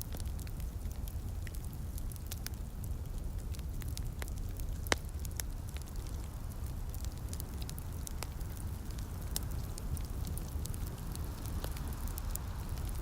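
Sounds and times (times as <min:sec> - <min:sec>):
light rain: 0:00.0 - 0:13.0
wood fire crackling: 0:00.0 - 0:13.0.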